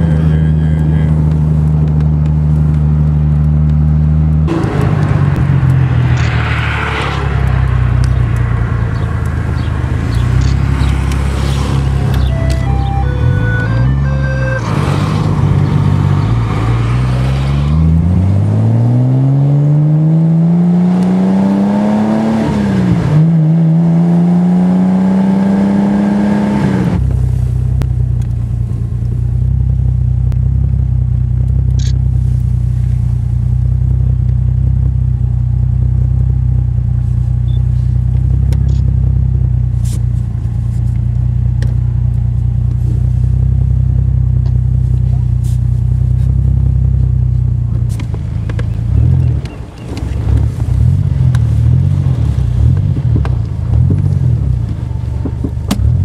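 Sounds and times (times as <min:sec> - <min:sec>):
car engine accelerating: 0:00.0 - 0:56.0
low engine hum: 0:00.0 - 0:56.0.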